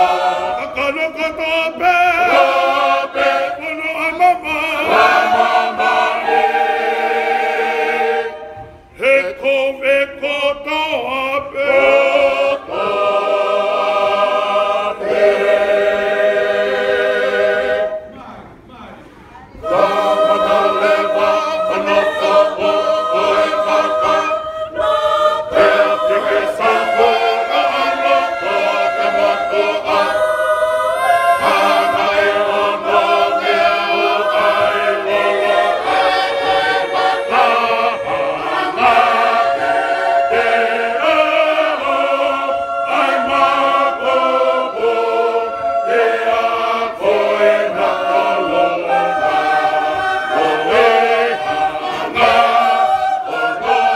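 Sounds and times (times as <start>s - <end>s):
choir singing a hymn unaccompanied: 0.0s - 18.2s, 19.5s - 53.9s.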